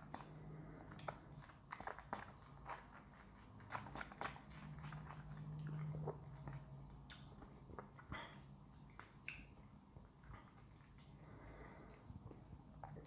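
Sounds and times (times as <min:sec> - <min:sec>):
low steady hum: 0:00.0 - 0:13.0
lip smacks and tongue clicks: 0:00.9 - 0:13.0.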